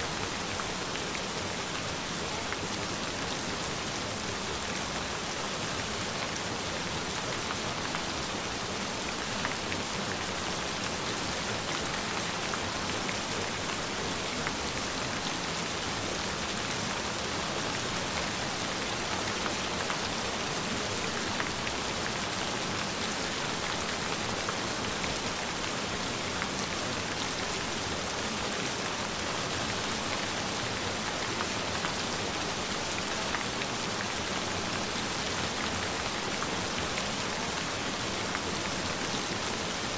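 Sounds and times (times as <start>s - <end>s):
gentle rain: 0.0s - 39.9s
patter of raindrops: 0.0s - 39.9s.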